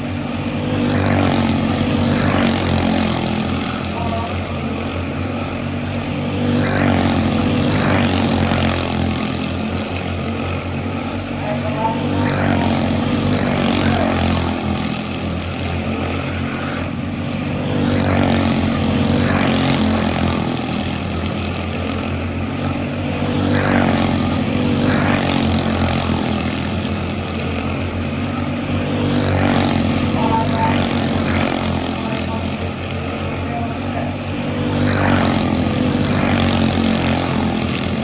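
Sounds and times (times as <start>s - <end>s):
race car engines buzzing: 0.0s - 38.0s.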